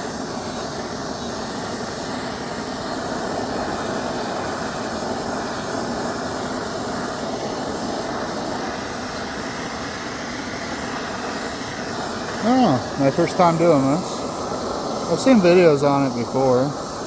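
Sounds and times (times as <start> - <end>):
propane torch flame blowing: 0.0 - 17.0.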